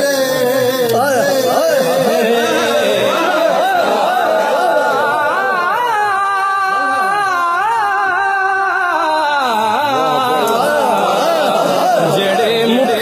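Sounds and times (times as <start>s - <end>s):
person singing a wavering melody: 0.0s - 13.0s.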